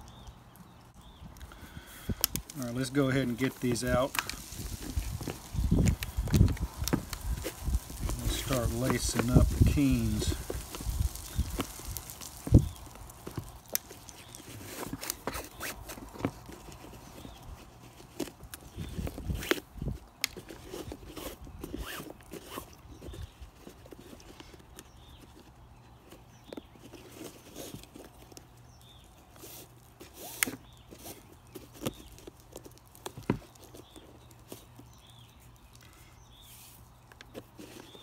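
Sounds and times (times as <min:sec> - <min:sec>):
bootlace rubbing and rustling: 0:02.0 - 0:38.0.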